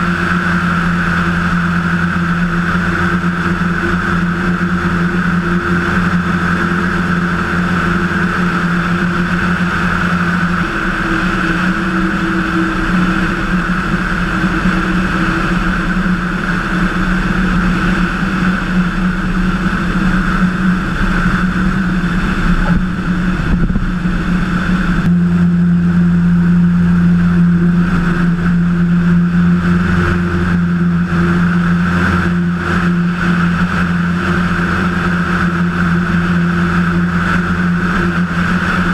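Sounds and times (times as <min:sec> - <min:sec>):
propeller aircraft cabin drone: 0:00.0 - 0:38.9.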